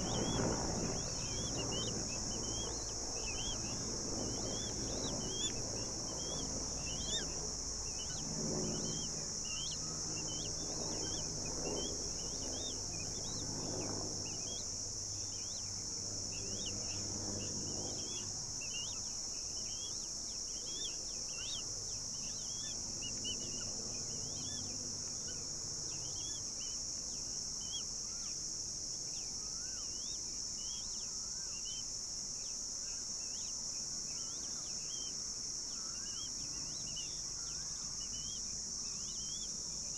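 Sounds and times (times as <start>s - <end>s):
high insect drone: 0.0s - 39.9s
small birds chirping: 0.0s - 39.9s.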